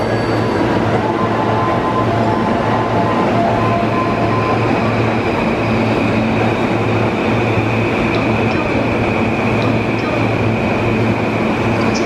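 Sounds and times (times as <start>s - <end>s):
train low hum: 0.0s - 12.0s.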